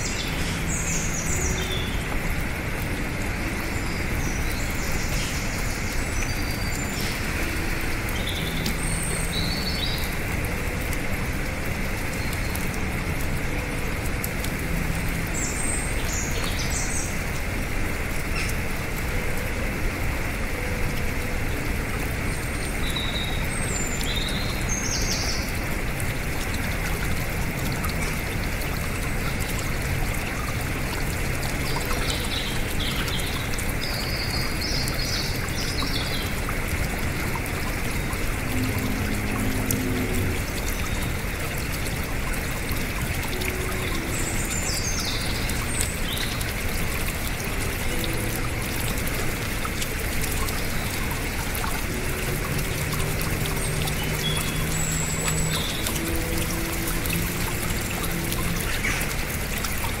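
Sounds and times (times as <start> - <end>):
stream splashing over rocks: 0.0 - 60.0.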